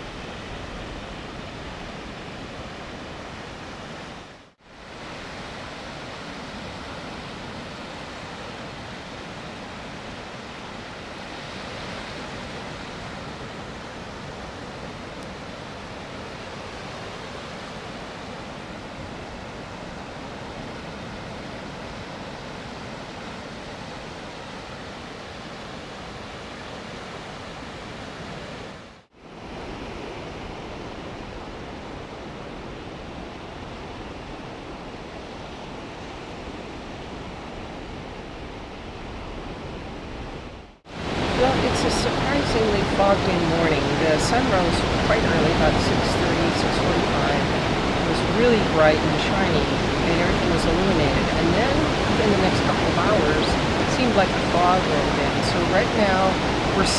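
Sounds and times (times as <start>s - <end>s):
surf washing on beach: 0.0s - 56.9s.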